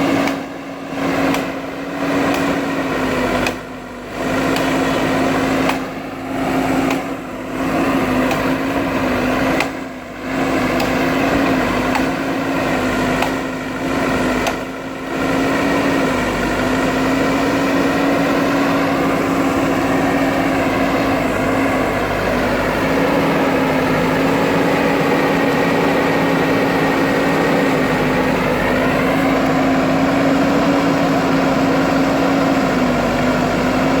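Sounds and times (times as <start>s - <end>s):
diesel engine running: 0.0s - 34.0s
steady whine: 0.0s - 34.0s.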